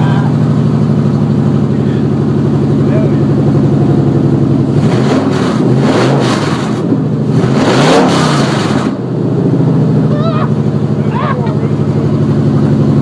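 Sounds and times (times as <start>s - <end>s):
loud engine idling and revving: 0.0s - 13.0s.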